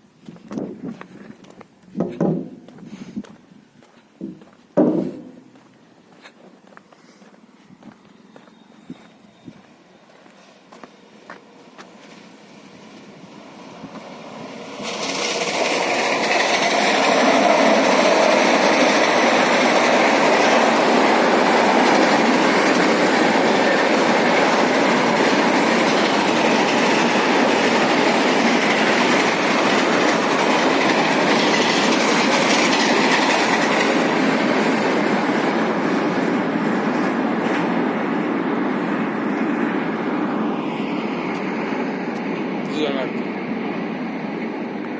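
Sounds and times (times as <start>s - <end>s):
train passing close by: 0.0s - 44.9s.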